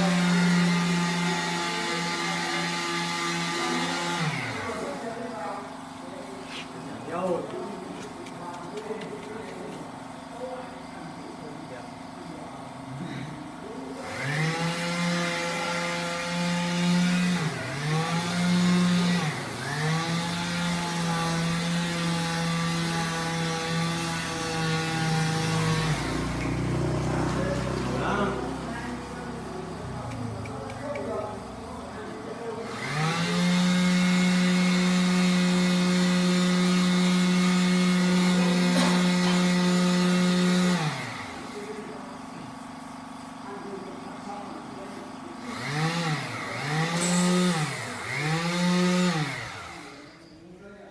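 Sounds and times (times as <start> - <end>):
motor running: 0.0 - 6.0, 13.9 - 50.4.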